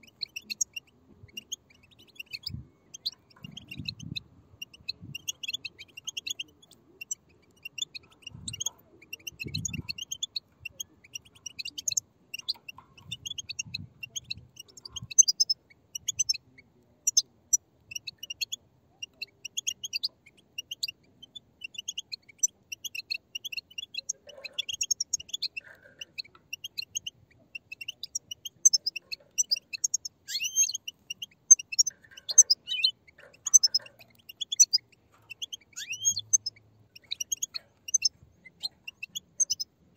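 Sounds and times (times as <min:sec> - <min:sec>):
goldfinches chirping: 0:00.0 - 0:39.9.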